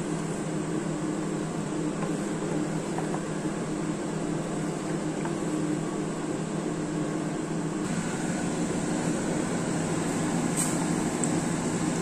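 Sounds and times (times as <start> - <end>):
kitchen machine hum: 0.0 - 12.0.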